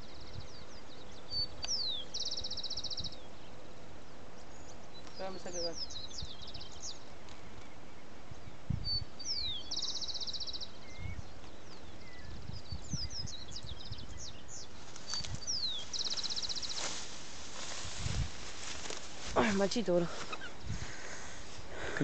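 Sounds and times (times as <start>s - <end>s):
bird singing buzzy trills: 0.0s - 22.0s.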